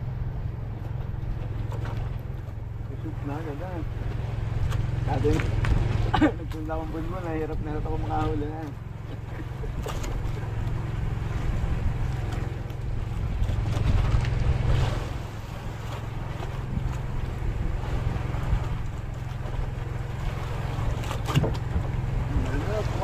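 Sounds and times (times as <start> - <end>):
boat motor running: 0.0 - 23.0
wind on microphone: 3.6 - 8.2, 9.0 - 23.0.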